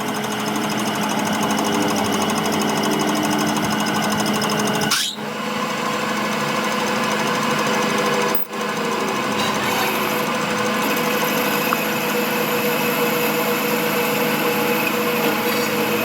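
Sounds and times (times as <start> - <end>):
machine running with rattling rhythm: 0.0 - 16.0.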